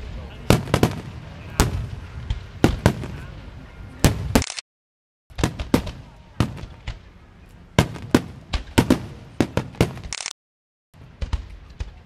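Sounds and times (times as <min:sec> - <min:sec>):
firecrackers banging: 0:00.0 - 0:04.4, 0:05.3 - 0:10.2, 0:11.0 - 0:12.0.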